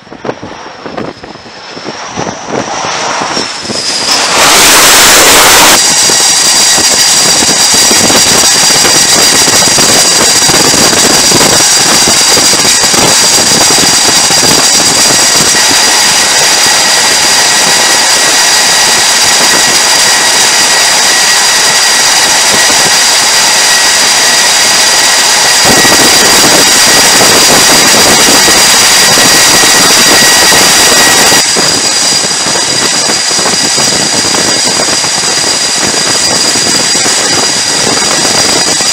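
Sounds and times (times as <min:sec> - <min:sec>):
high-pitched turbine whine: 0:00.0 - 0:38.9
jet engines roaring: 0:00.0 - 0:38.9.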